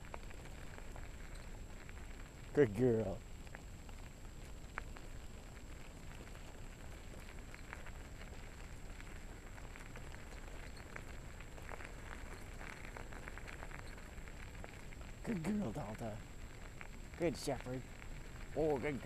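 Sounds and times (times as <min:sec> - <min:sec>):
wheels rolling over gravel: 0:00.0 - 0:19.0.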